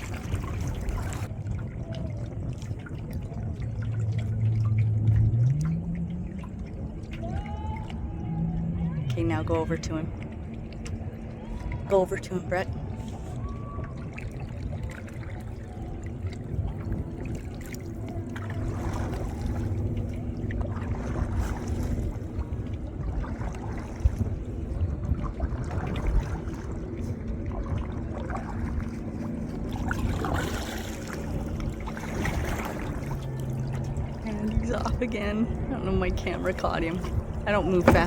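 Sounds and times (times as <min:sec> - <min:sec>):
paddle splashing water: 0:00.0 - 0:38.0
steady low rumble: 0:00.0 - 0:38.0
water trickling: 0:00.0 - 0:38.0.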